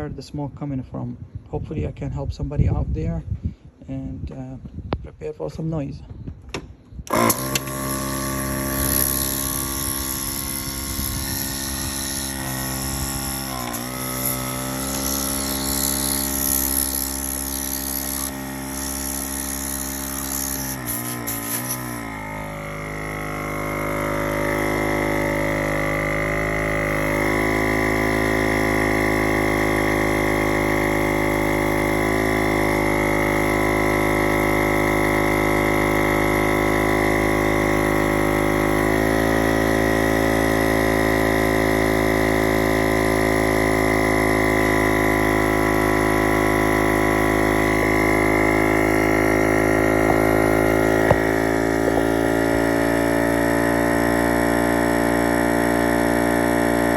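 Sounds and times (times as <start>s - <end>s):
smoke machine and blower humming: 7.0s - 56.9s.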